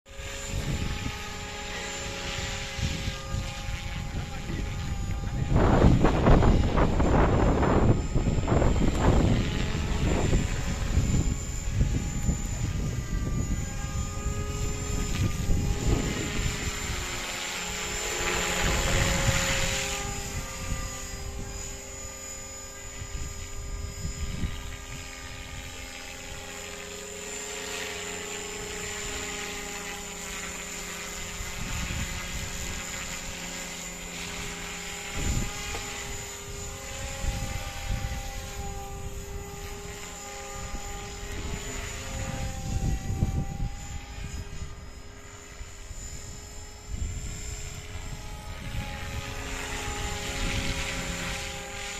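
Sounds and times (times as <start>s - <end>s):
model helicopter motor and rotor whine: 0.0s - 51.9s.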